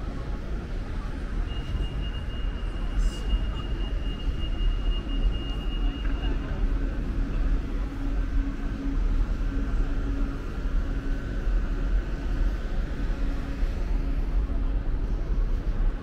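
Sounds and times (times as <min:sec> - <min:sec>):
faint mechanical hum: 0:00.0 - 0:16.0
low city rumble: 0:00.0 - 0:16.0.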